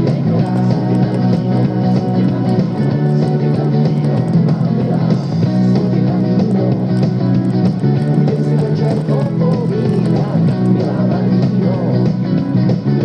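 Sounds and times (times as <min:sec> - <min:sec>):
bass guitar: 0:00.0 - 0:13.0
guitar: 0:00.0 - 0:13.0.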